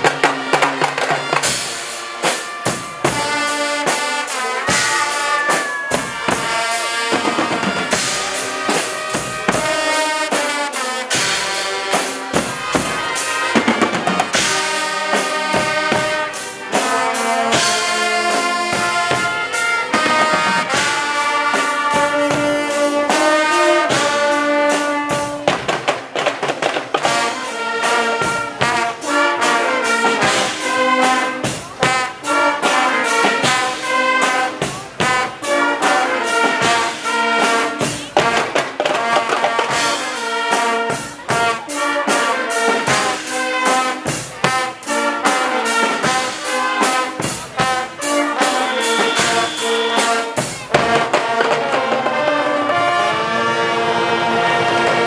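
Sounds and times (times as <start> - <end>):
drums and cymbals beat: 0.0 - 52.9
brass band playing: 0.0 - 55.0.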